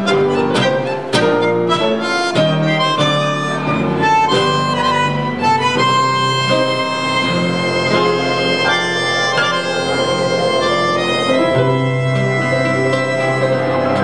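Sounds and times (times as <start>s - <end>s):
bandoneon sustained notes: 0.0s - 14.0s
plucked guitar chords: 0.0s - 14.0s
violin: 0.0s - 14.0s.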